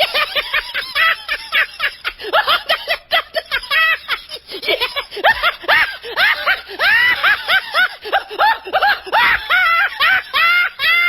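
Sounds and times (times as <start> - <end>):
person laughing high-pitched: 0.0 - 11.0.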